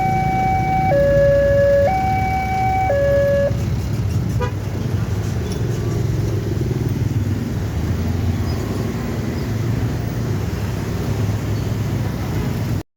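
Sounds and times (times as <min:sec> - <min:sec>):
road traffic engines humming: 0:00.0 - 0:12.8.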